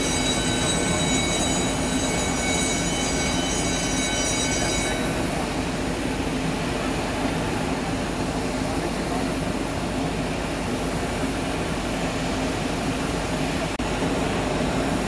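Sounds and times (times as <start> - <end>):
jet turbine whine: 0.0 - 15.0.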